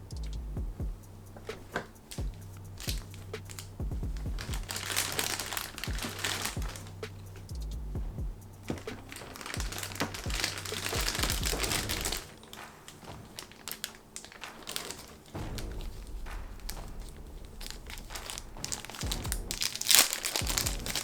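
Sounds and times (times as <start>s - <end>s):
packaging crinkling: 1.4s - 7.2s, 8.7s - 21.0s.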